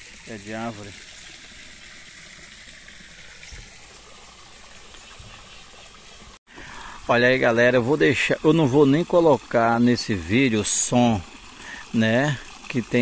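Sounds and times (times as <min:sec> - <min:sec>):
water splashing into pond: 0:00.0 - 0:13.0.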